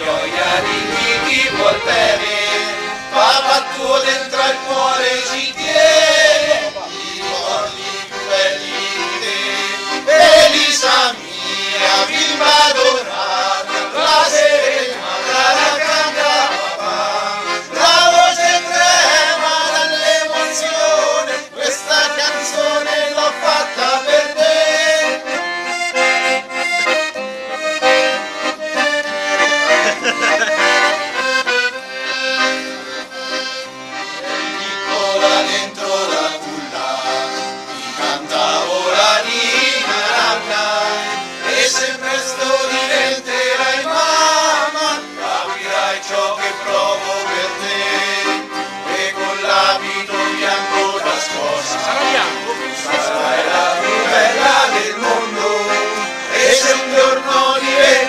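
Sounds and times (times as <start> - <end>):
accordion playing a serenade: 0.0 - 58.0.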